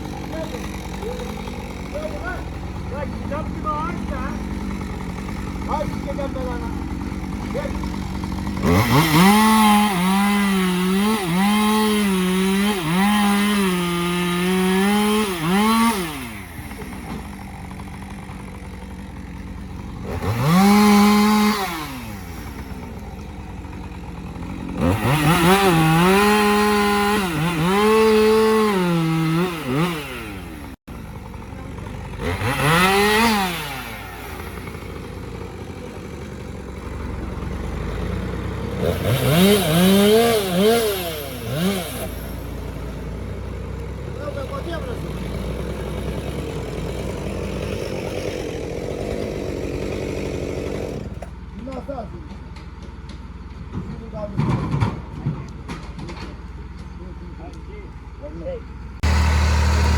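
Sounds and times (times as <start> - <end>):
chainsaw revving and cutting logs: 0.0 - 59.9.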